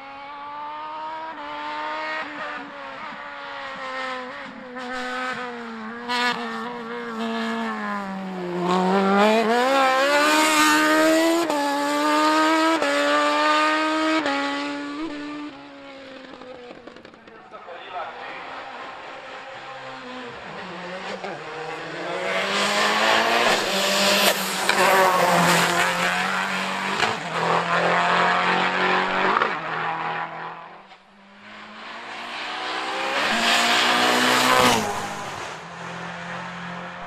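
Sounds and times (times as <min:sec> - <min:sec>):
race car engine at full throttle: 0:00.0 - 0:37.0.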